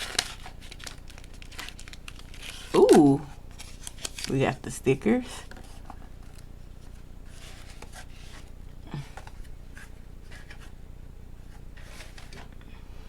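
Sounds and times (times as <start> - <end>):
packaging rustling: 0.0 - 10.8
steady low hum: 0.0 - 13.0.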